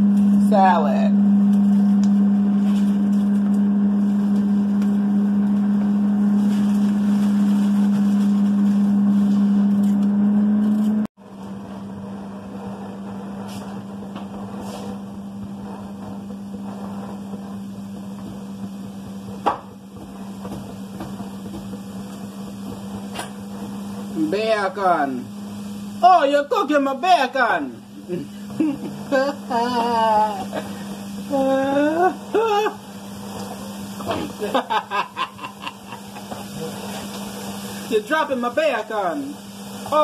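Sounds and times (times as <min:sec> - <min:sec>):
kitchen appliance humming: 0:00.0 - 0:40.0.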